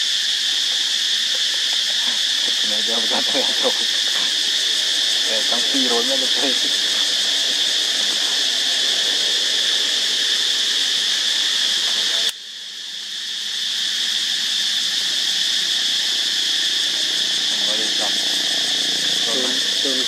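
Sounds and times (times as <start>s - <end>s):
forest insects buzzing: 0.0s - 20.0s.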